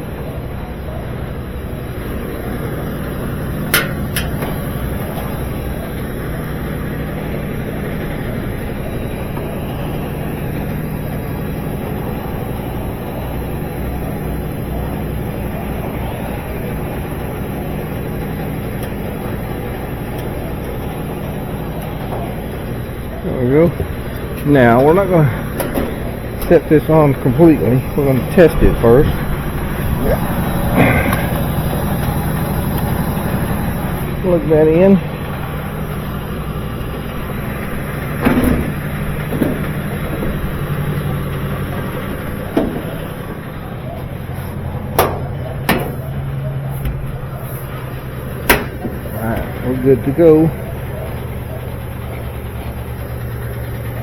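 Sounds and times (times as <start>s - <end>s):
motor humming and whirring: 0.0s - 54.0s.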